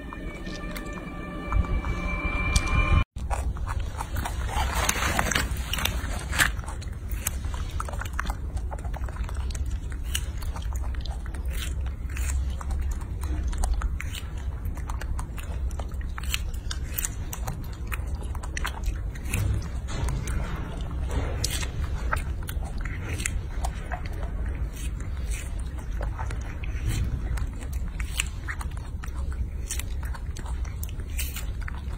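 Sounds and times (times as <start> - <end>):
low steady rumble: 0.0 - 31.9
monkey chewing strawberry: 3.2 - 31.9.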